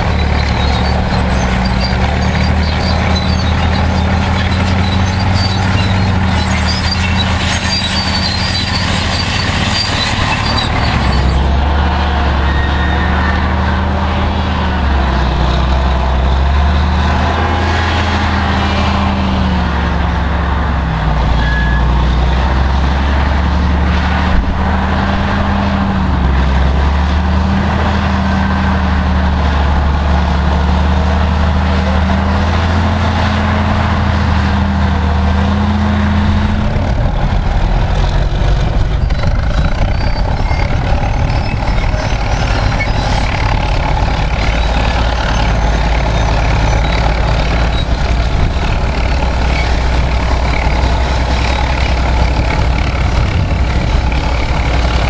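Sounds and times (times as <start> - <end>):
heavy diesel engines under load: 0.0 - 55.0.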